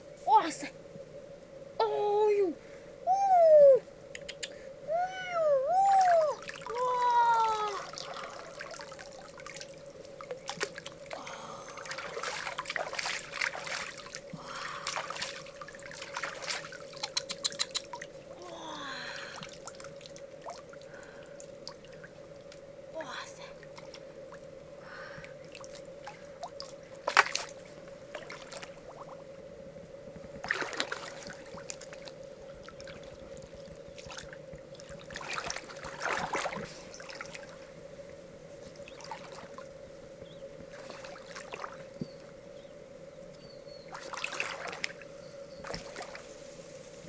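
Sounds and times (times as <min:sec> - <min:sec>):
steady low hum: 0:00.0 - 0:47.0
water splashing and trickling: 0:05.1 - 0:29.3, 0:30.2 - 0:39.8, 0:40.6 - 0:42.2, 0:43.9 - 0:47.0.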